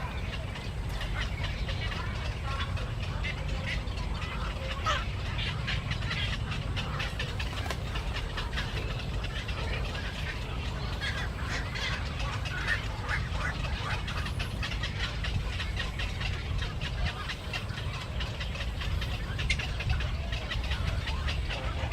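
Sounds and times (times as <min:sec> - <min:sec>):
flock of birds chattering: 0:00.0 - 0:21.9
steady low rumble: 0:00.0 - 0:21.9.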